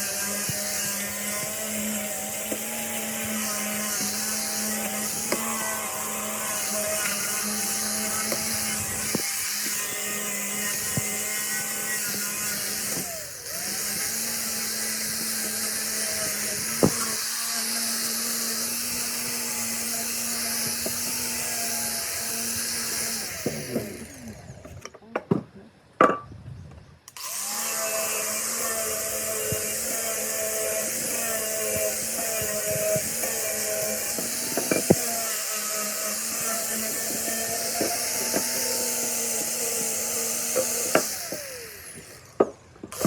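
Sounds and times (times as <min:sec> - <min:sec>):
electric power tool running: 0:00.0 - 0:24.8, 0:27.1 - 0:43.0.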